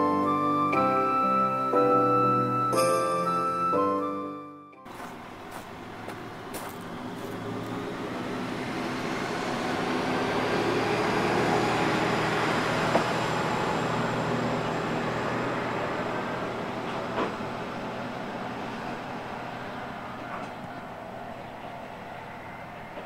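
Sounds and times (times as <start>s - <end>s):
diesel railcar running past: 0.0s - 23.0s.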